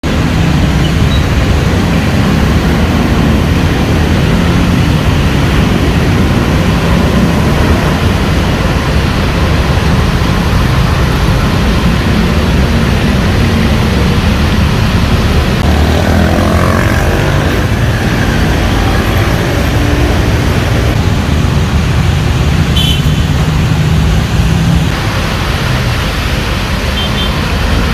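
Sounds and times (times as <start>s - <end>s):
rumble of traffic engines: 0.0s - 27.9s
tyres hissing on wet road: 0.0s - 27.9s.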